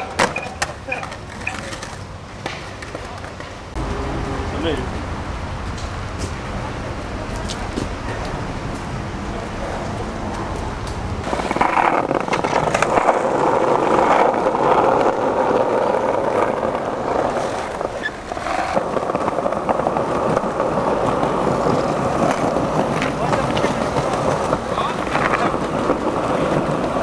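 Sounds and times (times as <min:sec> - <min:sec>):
skateboard wheels rolling on pavement: 0:00.0 - 0:27.0.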